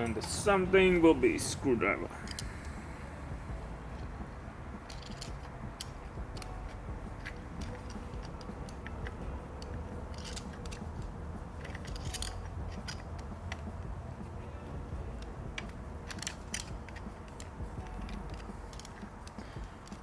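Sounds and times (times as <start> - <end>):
low rumble: 2.0 - 19.7.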